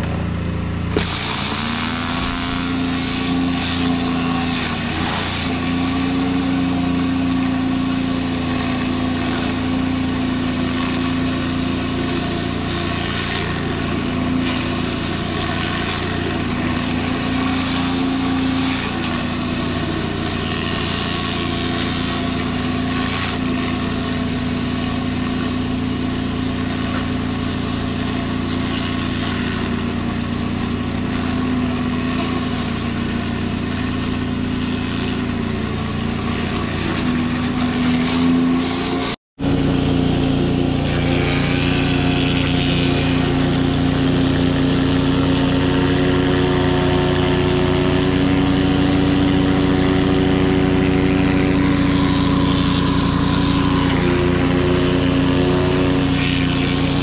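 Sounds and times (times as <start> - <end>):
pressure washer engine running: 0.0 - 57.0
water jet hissing on concrete: 0.8 - 57.0.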